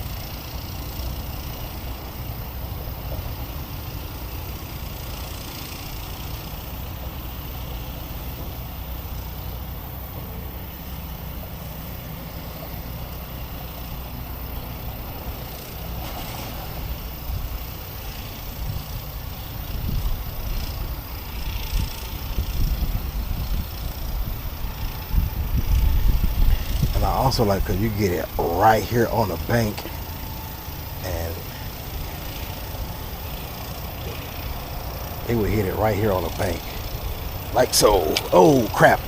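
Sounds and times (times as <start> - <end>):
background hiss: 0.0 - 39.0
low rumble of road traffic: 0.0 - 39.0.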